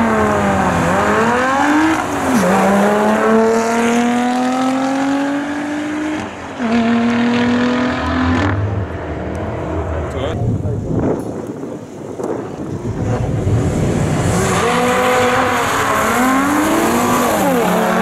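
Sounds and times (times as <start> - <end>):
car engine accelerating hard: 0.0 - 10.4, 12.8 - 18.0.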